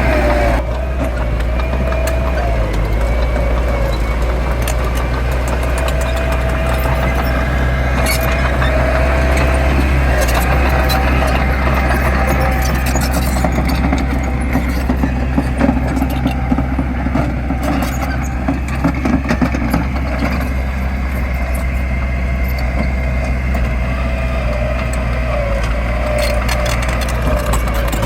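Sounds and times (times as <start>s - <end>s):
diesel machinery engine hum: 0.0s - 28.0s
scattered clicks and knocks: 0.2s - 28.0s.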